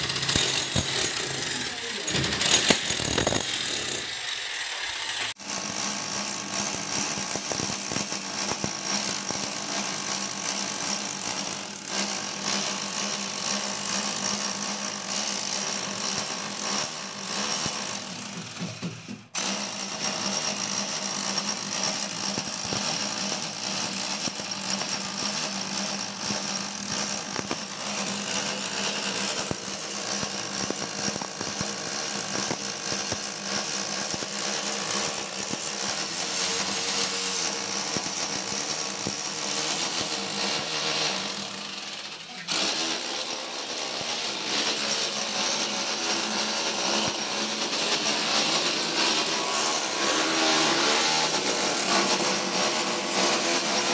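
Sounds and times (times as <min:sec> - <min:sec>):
power tool cutting masonry: 0:00.0 - 0:53.9.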